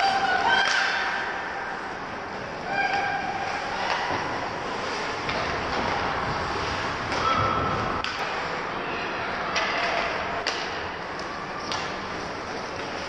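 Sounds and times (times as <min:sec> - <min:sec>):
hockey sticks and puck clacking: 0:00.0 - 0:01.5, 0:02.6 - 0:08.7, 0:09.4 - 0:13.0.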